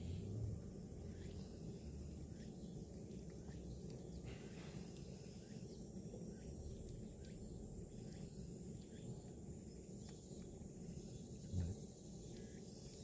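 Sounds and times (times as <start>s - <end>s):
low steady rumble: 0.0s - 9.9s, 10.5s - 12.6s
faint ticks: 0.0s - 13.0s
insects chirping: 0.0s - 13.0s.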